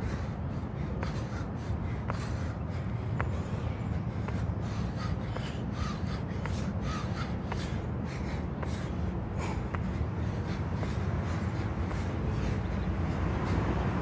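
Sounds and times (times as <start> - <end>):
man breathing hard: 0.0 - 14.0
steady low rumble: 0.0 - 14.0.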